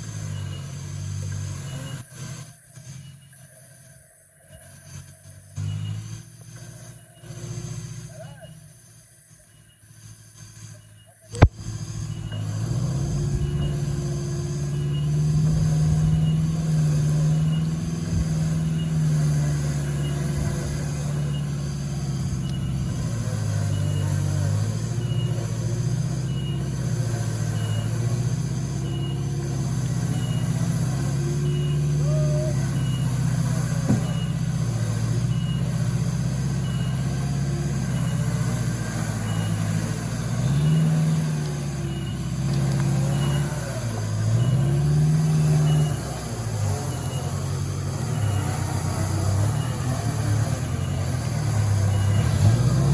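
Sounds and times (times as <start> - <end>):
off-road vehicle engine running: 0.0 - 52.9.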